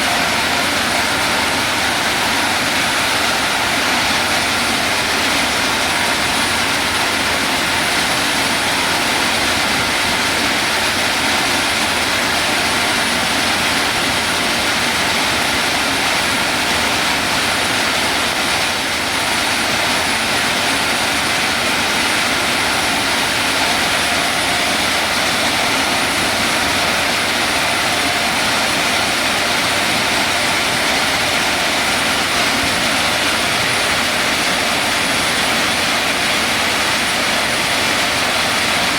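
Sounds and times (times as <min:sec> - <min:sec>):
machine steady rushing noise: 0:00.0 - 0:38.9.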